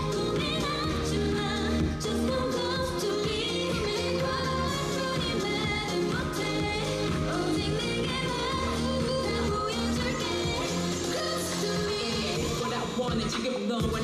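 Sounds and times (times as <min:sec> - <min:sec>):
driving dance beat: 0:00.0 - 0:14.0
woman singing: 0:00.0 - 0:14.0.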